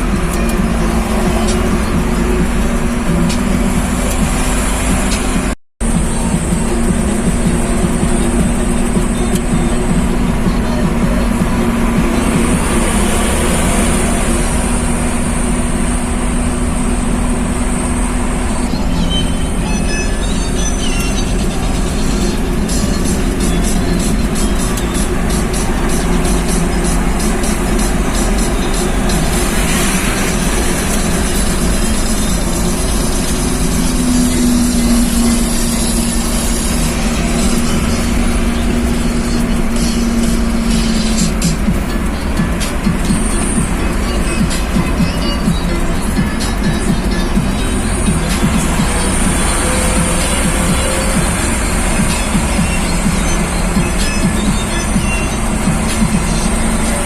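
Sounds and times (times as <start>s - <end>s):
road noise: 0.0s - 57.0s
truck engine droning: 0.0s - 57.0s.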